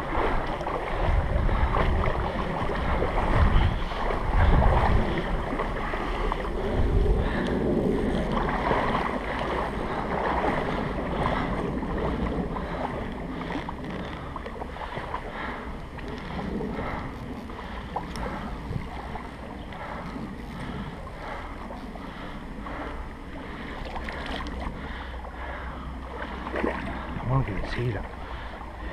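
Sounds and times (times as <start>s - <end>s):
stream water splashing: 0.0s - 28.9s
wind buffeting microphone: 0.0s - 28.9s.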